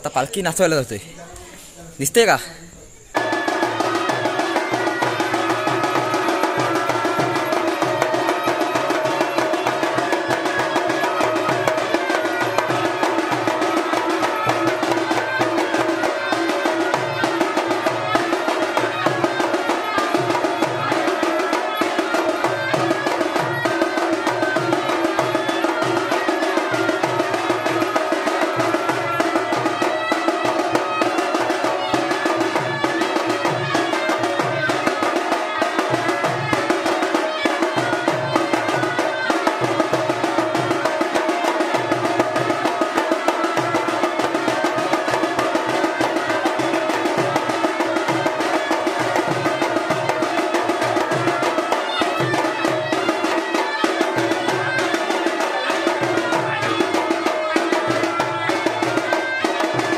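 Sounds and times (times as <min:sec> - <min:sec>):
festival music with driving drums: 0:03.1 - 0:59.9.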